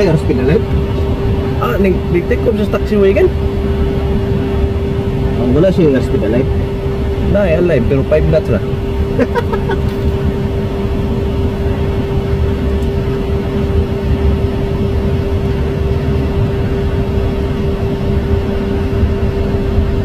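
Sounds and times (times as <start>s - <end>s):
helicopter rotors beating: 0.0s - 20.0s
helicopter turbine whine: 0.0s - 20.0s.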